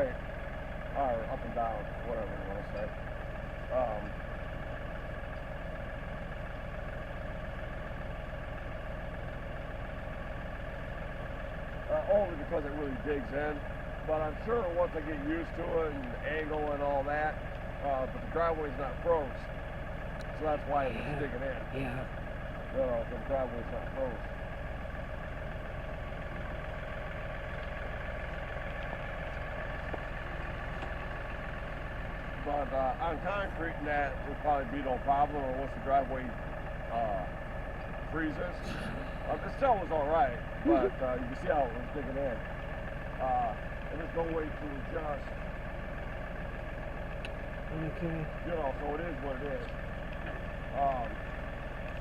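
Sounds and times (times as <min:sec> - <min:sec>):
tractor diesel engine idling: 0:00.0 - 0:52.0.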